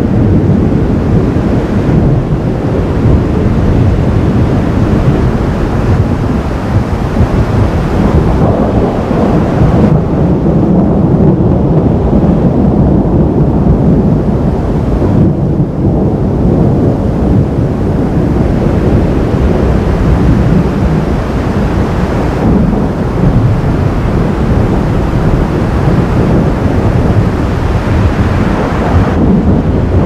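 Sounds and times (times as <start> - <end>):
thunder rumbling: 0.0 - 30.0.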